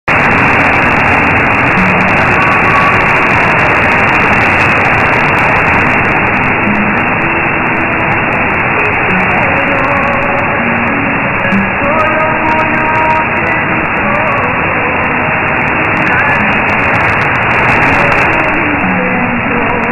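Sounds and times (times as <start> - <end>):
radio band hiss: 0.0 - 19.9
faint radio music: 0.1 - 19.9.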